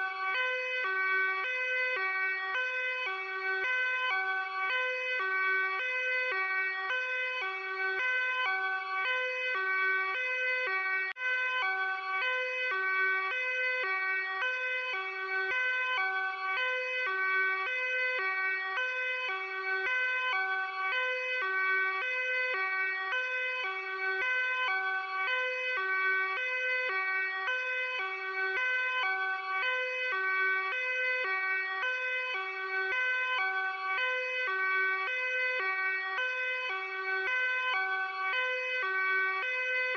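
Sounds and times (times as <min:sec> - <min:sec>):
police hi-lo siren: 0:00.0 - 0:39.9.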